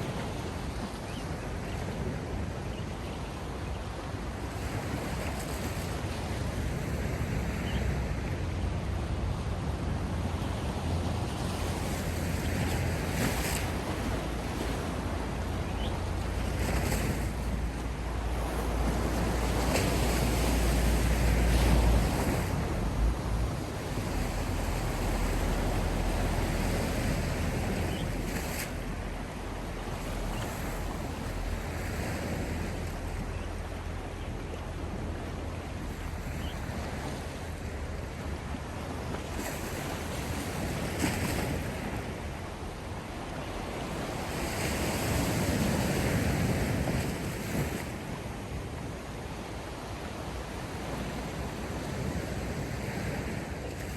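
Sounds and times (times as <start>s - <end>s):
sea waves washing in: 0.0s - 53.9s
wind rumble on microphone: 0.0s - 53.9s.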